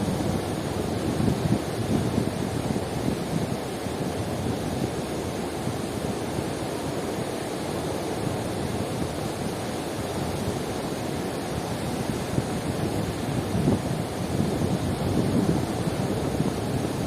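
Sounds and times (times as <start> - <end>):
waves washing onto shore: 0.0 - 17.0.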